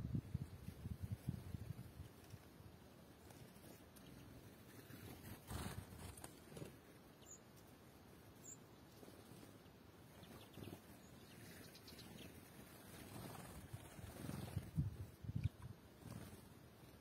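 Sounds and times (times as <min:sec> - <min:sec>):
soft low rustles: 0:00.0 - 0:06.9, 0:08.9 - 0:17.0
small birds chirping: 0:00.4 - 0:17.0.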